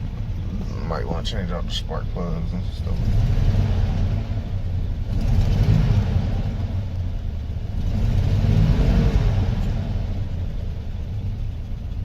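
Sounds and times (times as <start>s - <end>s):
pickup engine running and revving: 0.0s - 12.0s.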